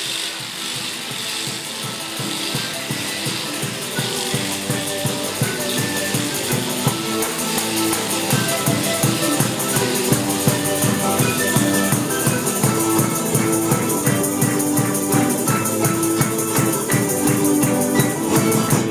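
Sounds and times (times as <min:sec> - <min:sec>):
music with quick beat: 0:00.0 - 0:18.9
shaker percussion: 0:00.0 - 0:18.9.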